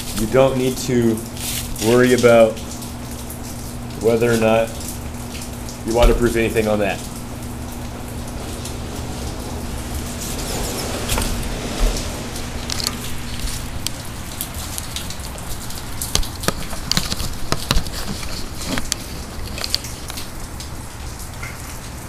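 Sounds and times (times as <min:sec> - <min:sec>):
heavy rain falling: 0:00.0 - 0:22.0
raindrops tapping nearby: 0:00.0 - 0:22.0.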